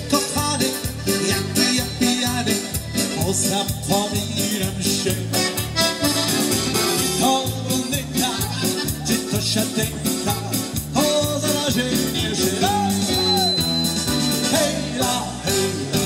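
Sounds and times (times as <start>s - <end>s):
dance band music with accordion: 0.0s - 16.0s.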